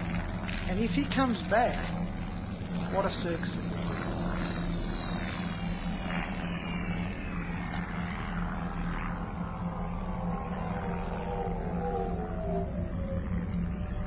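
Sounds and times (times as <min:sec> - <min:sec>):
propeller aircraft engine drone: 0:00.0 - 0:14.0
eerie tone sliding downward: 0:00.8 - 0:14.0.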